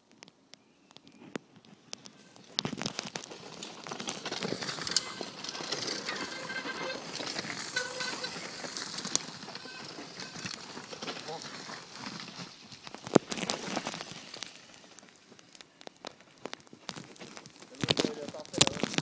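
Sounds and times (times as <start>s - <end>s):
bike tyres crunching on dirt: 0.4s - 19.0s
bikes rattling over bumps: 1.7s - 19.0s.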